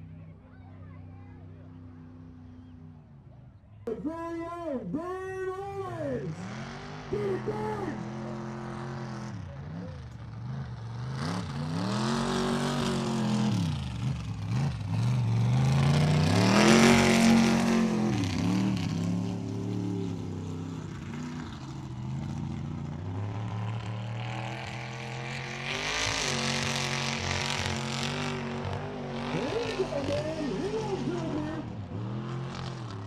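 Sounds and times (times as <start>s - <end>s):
truck engine revving hard: 6.3s - 33.0s.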